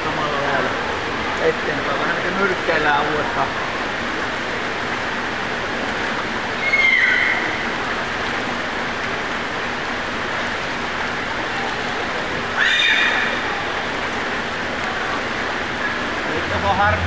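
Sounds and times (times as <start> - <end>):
water splashing in pool: 0.0 - 17.0.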